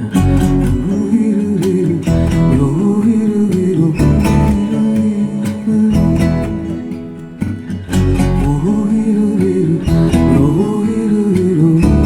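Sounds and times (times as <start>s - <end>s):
acoustic guitar: 0.0s - 12.0s
bass: 0.0s - 12.0s.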